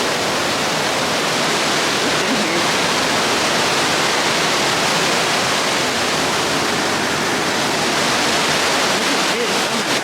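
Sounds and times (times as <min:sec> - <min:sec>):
waterfall roaring in a cave: 0:00.0 - 0:10.0.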